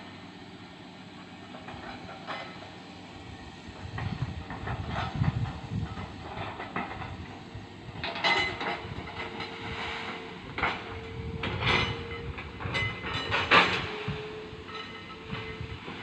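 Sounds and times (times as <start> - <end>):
excavator whining: 0.0 - 16.0.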